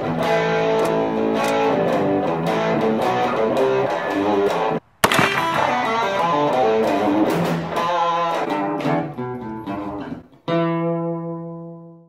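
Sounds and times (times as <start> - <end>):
picked guitar notes: 0.0 - 12.0.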